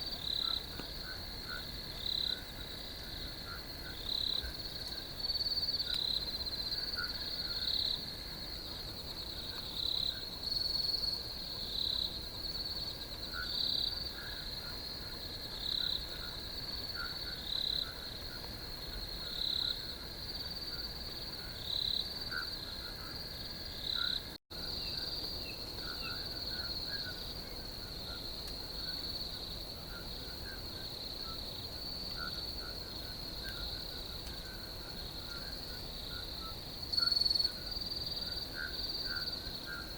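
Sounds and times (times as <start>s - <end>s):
crickets trilling: 0.0s - 39.9s
faint low insect calls: 0.0s - 39.9s
loud cricket chirp: 0.0s - 39.9s.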